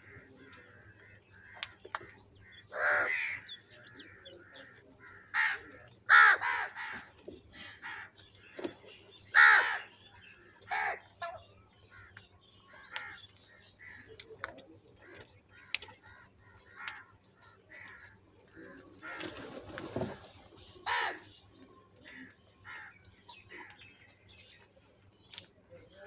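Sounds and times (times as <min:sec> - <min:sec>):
crows cawing: 0:00.0 - 0:08.6, 0:09.3 - 0:20.2, 0:20.8 - 0:21.4, 0:22.0 - 0:24.1.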